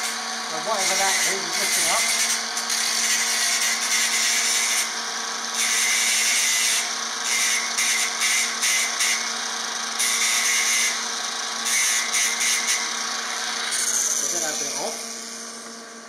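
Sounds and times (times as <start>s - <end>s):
power grinder whining on metal: 0.0s - 16.0s.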